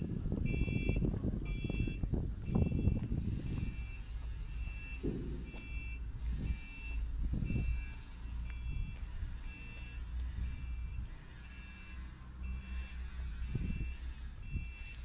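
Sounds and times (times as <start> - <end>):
diesel engine humming: 0.0 - 15.0
truck warning beeper: 0.4 - 15.0.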